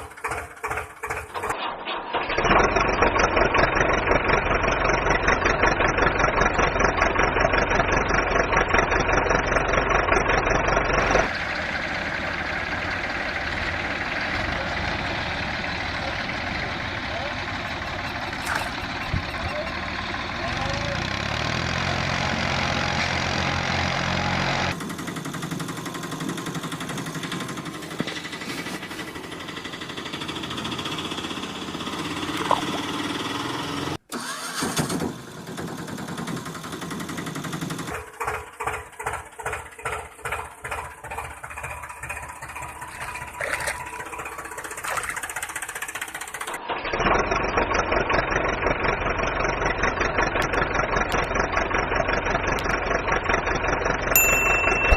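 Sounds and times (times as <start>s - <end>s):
vehicle engine chugging: 0.0s - 1.6s, 2.4s - 54.9s.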